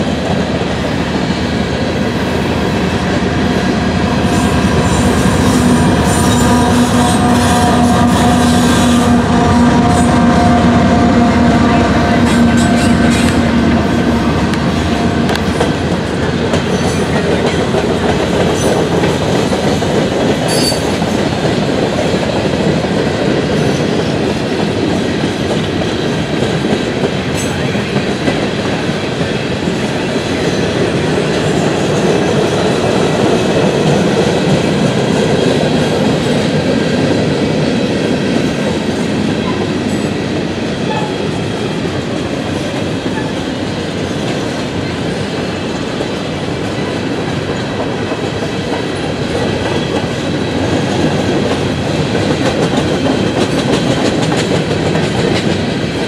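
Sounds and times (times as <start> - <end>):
rumble of steel wheels on rails: 0.0 - 56.0.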